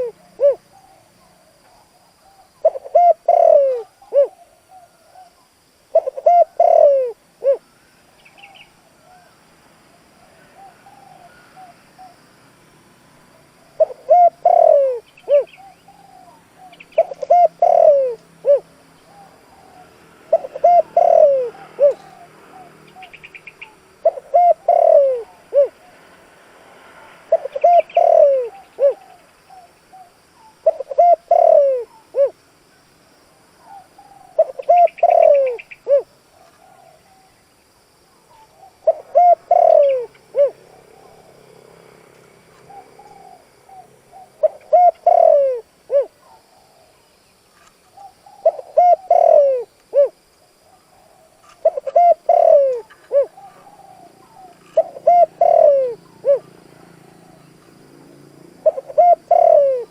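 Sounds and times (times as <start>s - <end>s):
dove cooing: 0.0s - 9.4s, 10.0s - 12.3s, 13.4s - 26.1s, 27.0s - 32.4s, 33.6s - 47.0s, 47.8s - 57.8s, 58.6s - 59.9s.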